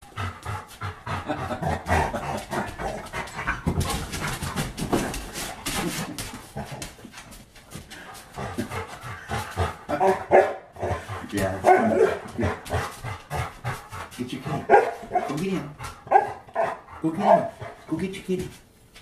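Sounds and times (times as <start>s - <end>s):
dog panting: 0.0s - 18.1s.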